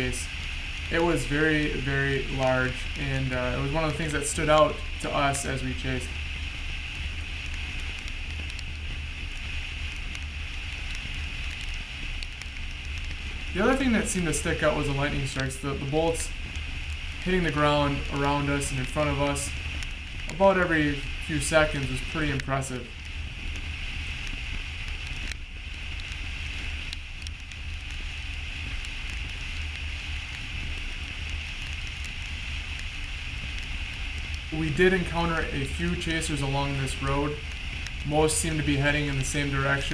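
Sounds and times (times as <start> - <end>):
car road and wind noise: 0.0 - 36.4
raindrops ticking: 0.0 - 39.9
vehicle driving rumble: 0.0 - 39.9.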